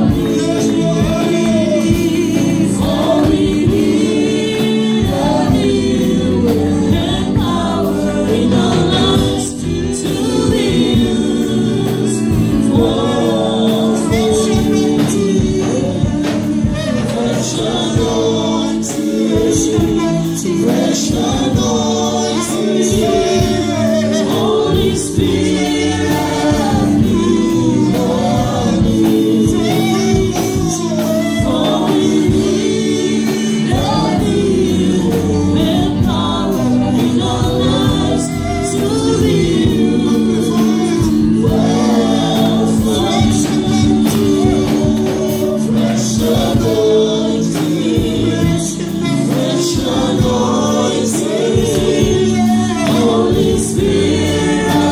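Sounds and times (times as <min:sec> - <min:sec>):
group singing gospel: 0:00.0 - 0:54.9
held keyboard notes: 0:00.0 - 0:54.9.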